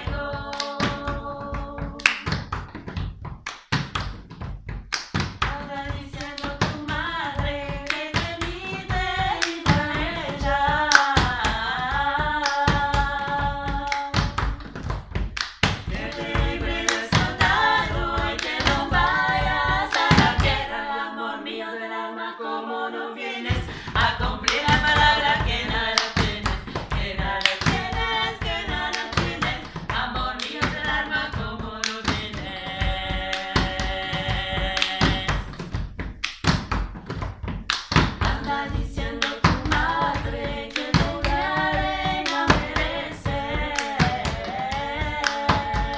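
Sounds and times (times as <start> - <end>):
women singing a cappella: 0.0 - 2.6, 5.4 - 14.8, 15.7 - 35.6, 38.0 - 45.9
hands slapping a wooden board: 0.1 - 20.6, 23.5 - 45.9.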